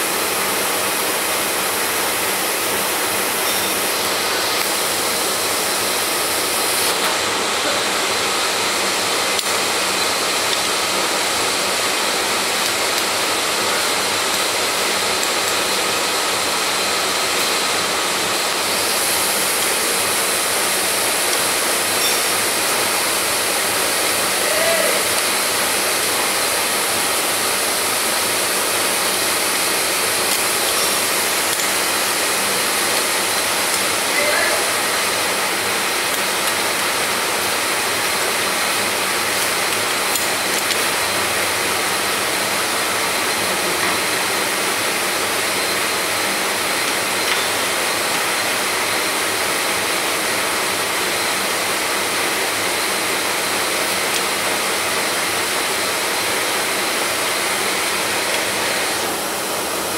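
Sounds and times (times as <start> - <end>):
drilling machine whirring: 0.0 - 59.9.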